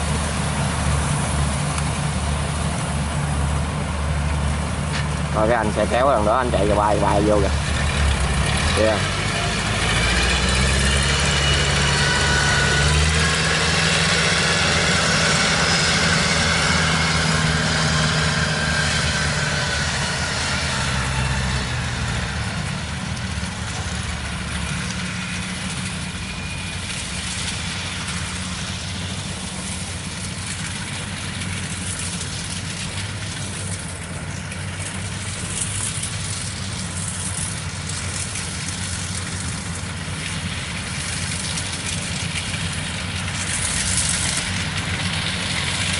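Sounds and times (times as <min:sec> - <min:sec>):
diesel engine running: 0:00.0 - 0:45.9
distant machinery engine drone: 0:00.0 - 0:45.9.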